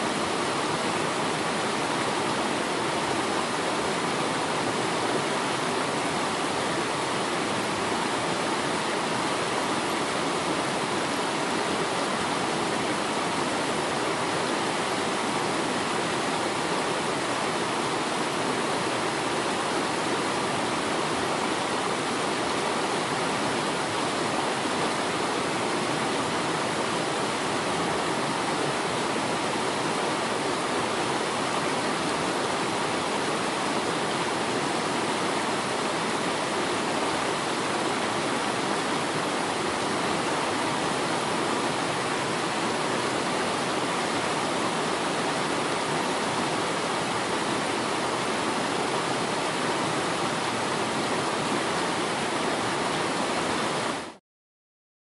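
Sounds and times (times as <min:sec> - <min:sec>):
waterfall roaring: 0:00.0 - 0:54.2.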